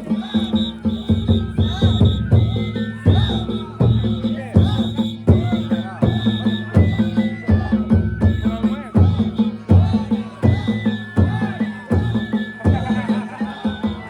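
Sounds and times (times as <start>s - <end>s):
bamboo flute playing: 0.0s - 14.0s
drums beating fast rhythm: 0.0s - 14.0s.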